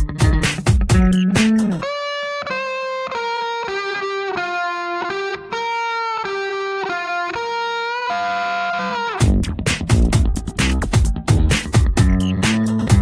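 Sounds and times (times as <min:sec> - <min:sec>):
distorted electric guitar melody: 0:00.0 - 0:13.0.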